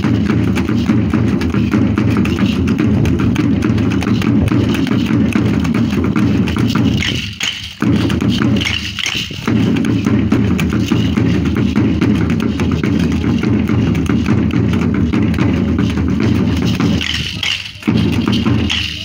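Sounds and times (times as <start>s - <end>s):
dance drum beating: 0.0s - 19.0s
sharp percussive clicks: 0.0s - 19.0s.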